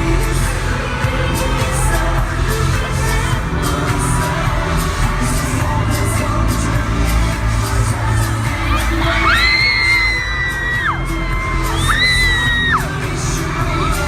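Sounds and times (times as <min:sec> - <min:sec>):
live pop music: 0:00.0 - 0:14.0.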